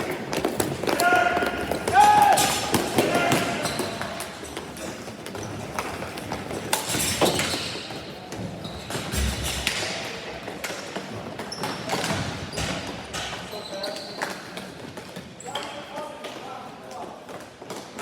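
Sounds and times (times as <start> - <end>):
hockey sticks and ball clacking: 0.0 - 18.0.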